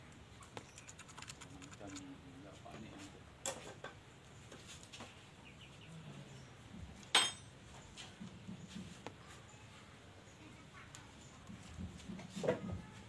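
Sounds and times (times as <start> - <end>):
faint low background sounds: 0.0 - 13.0.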